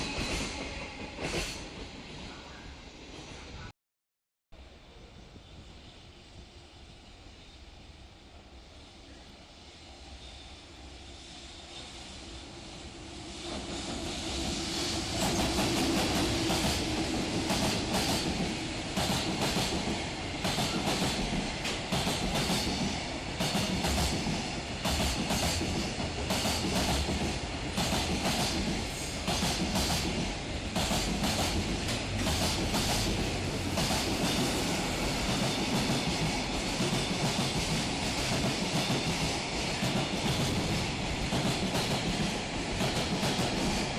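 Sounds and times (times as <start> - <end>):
freight train passing: 0.0 - 3.7, 4.6 - 43.9.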